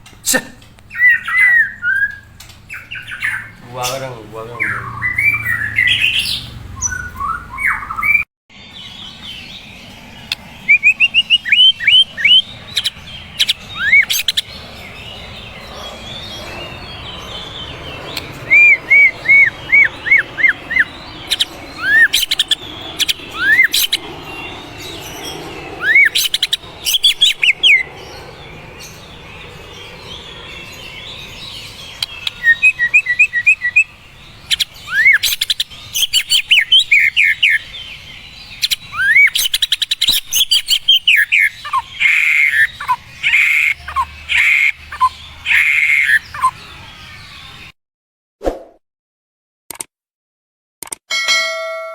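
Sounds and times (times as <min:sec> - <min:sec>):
songbird whistling song: 0:00.9 - 0:03.6, 0:04.6 - 0:47.6.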